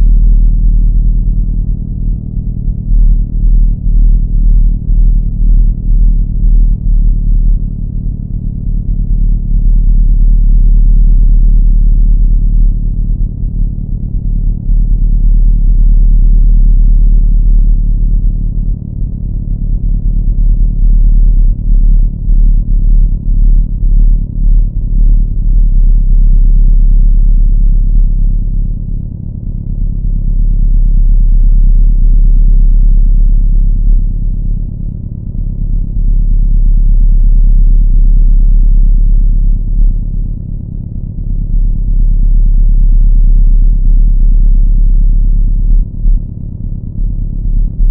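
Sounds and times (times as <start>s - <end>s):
low droning rumble: 0.0s - 47.9s.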